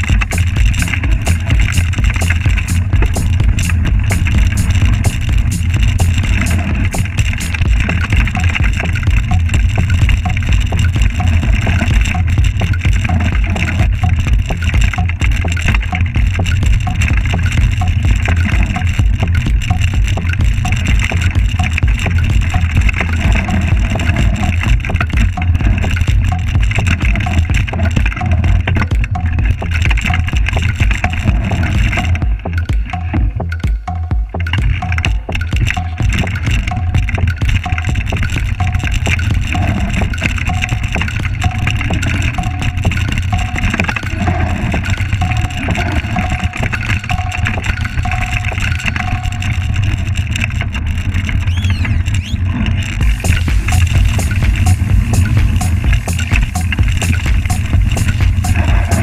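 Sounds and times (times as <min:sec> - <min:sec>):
bike rattling: 0:00.0 - 0:59.0
wind rumble on microphone: 0:00.0 - 0:59.0.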